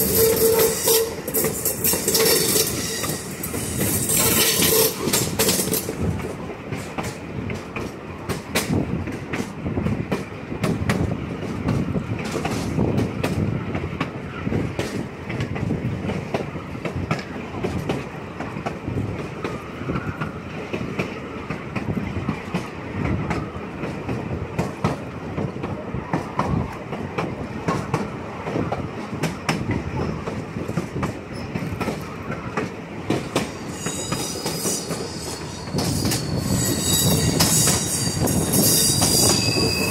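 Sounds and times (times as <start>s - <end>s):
train wheels rumbling on track: 0.0s - 39.9s
wheels clacking over rail joints: 0.0s - 39.9s.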